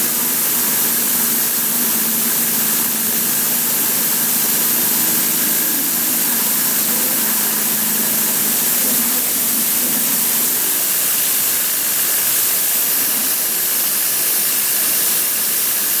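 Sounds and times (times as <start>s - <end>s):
low hum: 0.0s - 13.6s
spindle high hiss cutting plastic: 0.0s - 16.0s.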